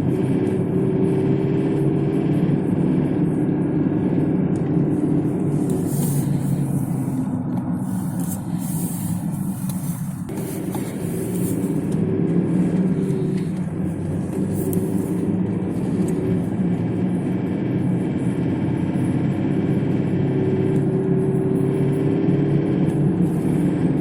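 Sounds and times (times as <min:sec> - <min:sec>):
diesel engine knocking: 0:00.0 - 0:24.0.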